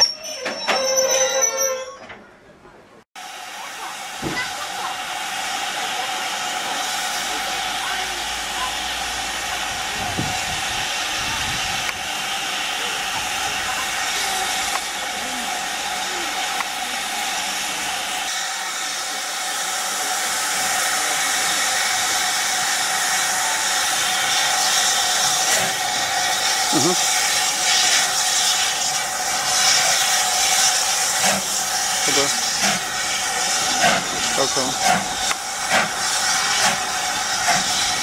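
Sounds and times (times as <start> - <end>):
steam locomotive blowing off steam: 3.2 - 38.0.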